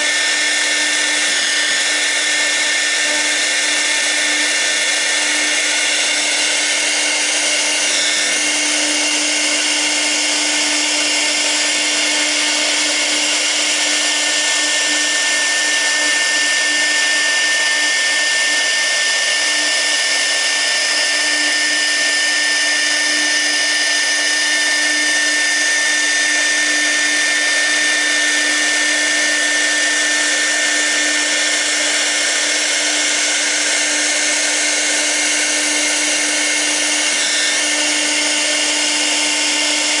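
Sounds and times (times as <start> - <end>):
high steady whistle: 0.0 - 40.0
router spindle whining: 0.0 - 40.0.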